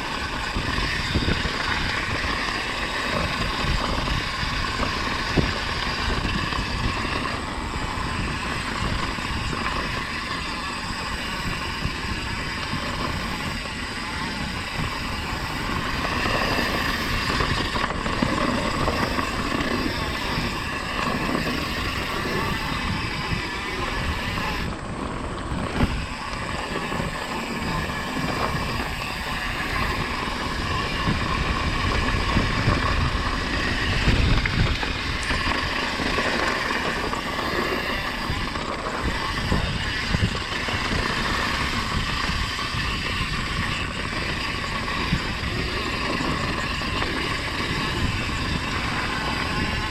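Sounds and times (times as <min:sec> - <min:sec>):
bike tyres rumbling on dirt: 0:00.0 - 0:49.9
wind rushing over microphone: 0:00.0 - 0:49.9.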